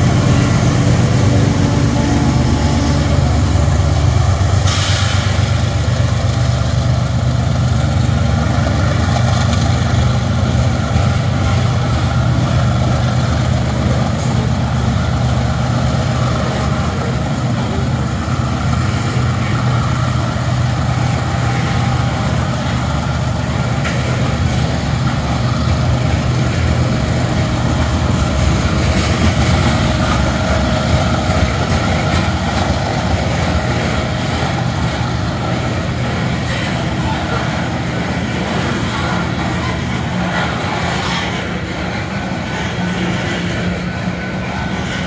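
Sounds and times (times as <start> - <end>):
freight train rolling past: 0.0 - 45.0
locomotive engine drone: 0.0 - 45.0.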